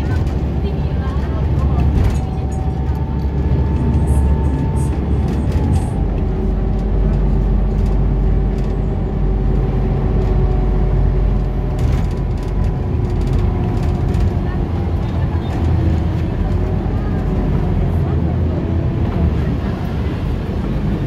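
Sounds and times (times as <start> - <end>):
bus engine and drivetrain hum: 0.0 - 21.0
road noise: 0.0 - 21.0.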